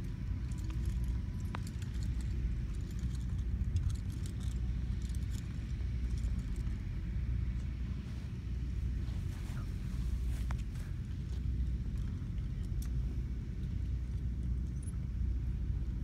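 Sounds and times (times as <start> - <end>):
faint light clicks and jingles: 0.0 - 7.9, 10.3 - 16.0.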